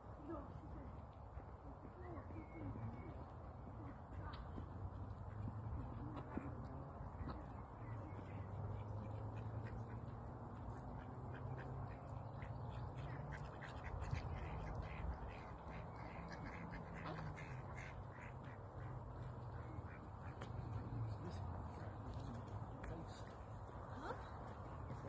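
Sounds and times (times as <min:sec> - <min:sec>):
ducks quacking: 0:03.7 - 0:25.0.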